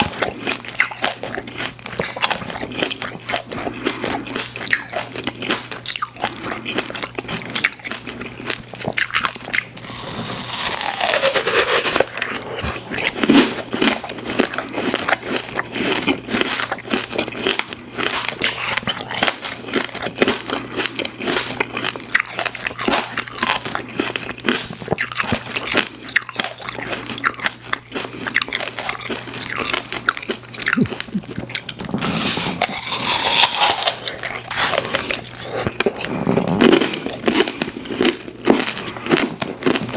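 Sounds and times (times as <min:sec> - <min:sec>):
biting and chewing sweets: 0:00.0 - 0:39.9.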